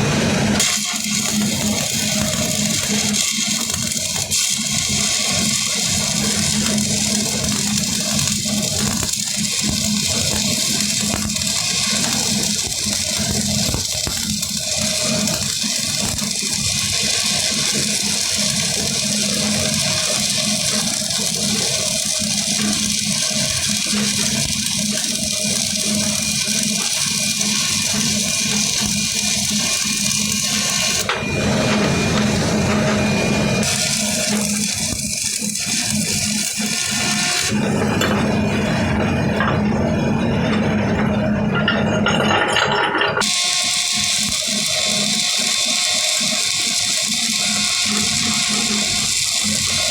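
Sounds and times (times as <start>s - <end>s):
welding arc crackling hiss: 0.0s - 38.9s, 43.2s - 49.9s.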